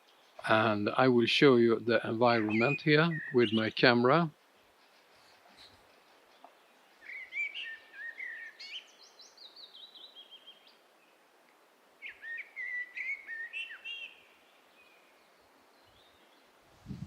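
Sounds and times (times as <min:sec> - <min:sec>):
songbird chirping: 0:00.0 - 0:16.7.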